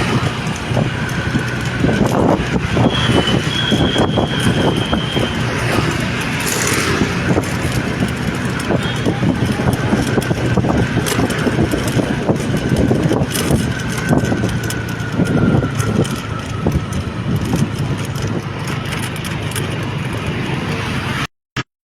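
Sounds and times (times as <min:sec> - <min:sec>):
road and wind noise: 0:00.0 - 0:21.3
vehicle engine hum: 0:00.0 - 0:21.3.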